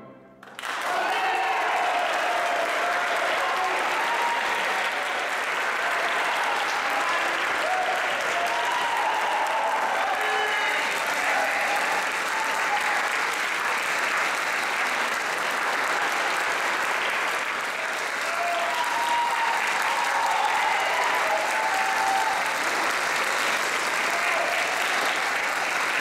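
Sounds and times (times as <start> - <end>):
audience applauding: 0.4 - 26.0.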